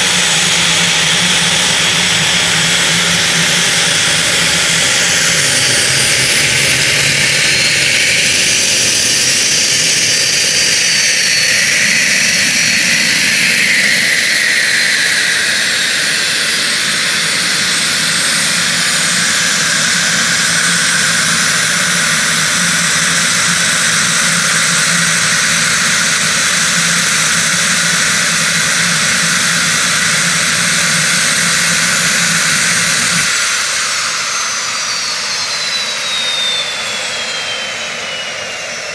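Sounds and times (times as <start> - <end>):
engine spooling down: 0.0 - 38.9
jet engines whining: 0.0 - 38.9.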